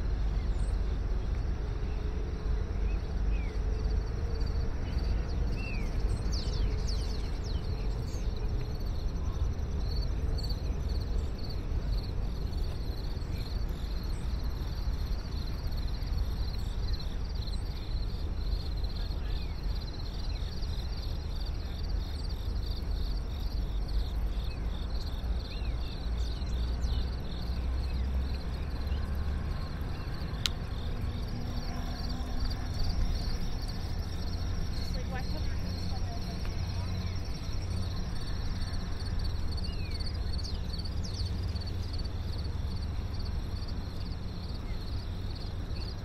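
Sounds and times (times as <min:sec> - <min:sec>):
crickets chirping: 0:00.0 - 0:46.0
low city rumble: 0:00.0 - 0:46.0.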